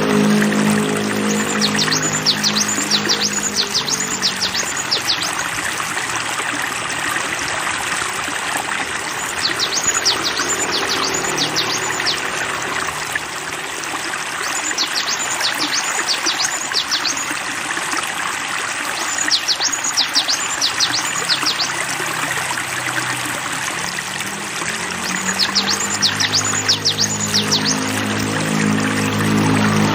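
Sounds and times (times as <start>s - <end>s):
running water: 0.0s - 29.9s.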